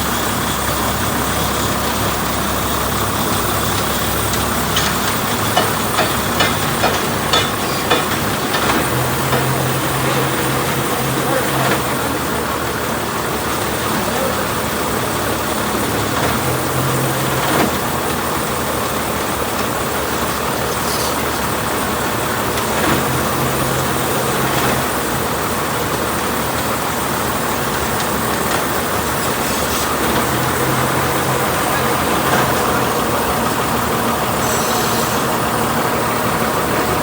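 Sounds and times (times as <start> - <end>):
road noise: 0.0 - 37.0
truck engine running: 0.0 - 37.0.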